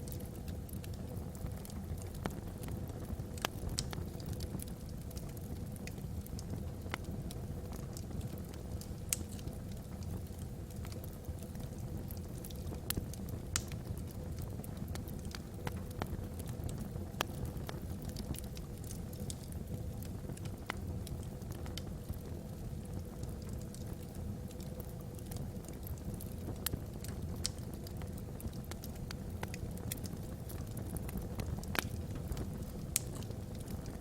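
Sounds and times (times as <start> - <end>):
fire low rumble: 0.0 - 34.0
wood fire crackling and popping: 0.0 - 34.0.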